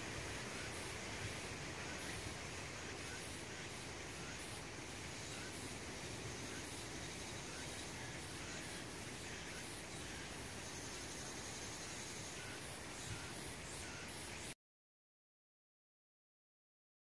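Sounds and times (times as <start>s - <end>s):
insects chorus: 0.0s - 14.6s.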